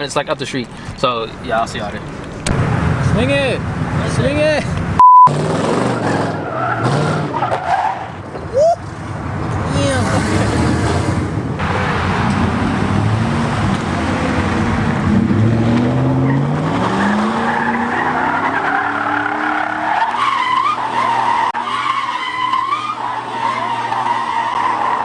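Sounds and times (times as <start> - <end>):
tires screeching: 0.0 - 25.0
truck engine revving: 0.0 - 25.0.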